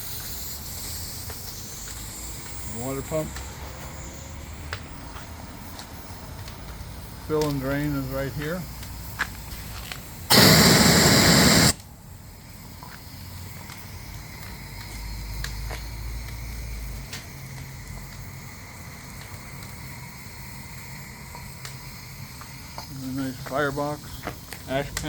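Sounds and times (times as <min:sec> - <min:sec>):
steam hissing from valve: 0:00.0 - 0:04.6, 0:06.8 - 0:24.9.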